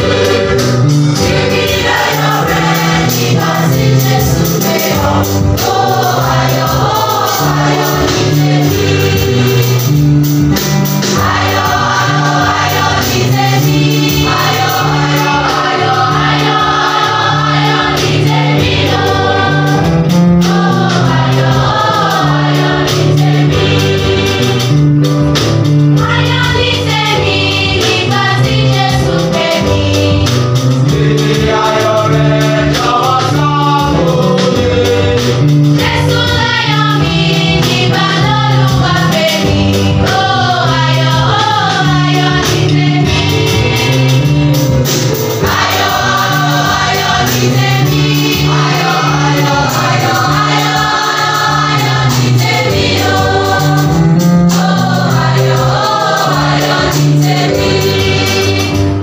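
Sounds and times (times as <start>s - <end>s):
choir singing: 0.0s - 10.2s, 11.0s - 24.8s, 26.0s - 59.0s
drum kit: 0.0s - 59.0s.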